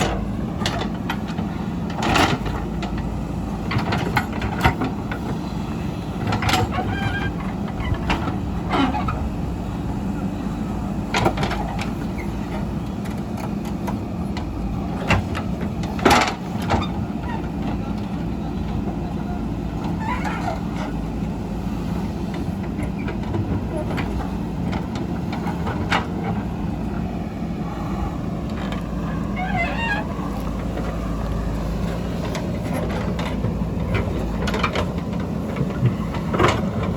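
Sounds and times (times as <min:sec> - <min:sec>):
backhoe diesel engine running: 0:00.0 - 0:36.9.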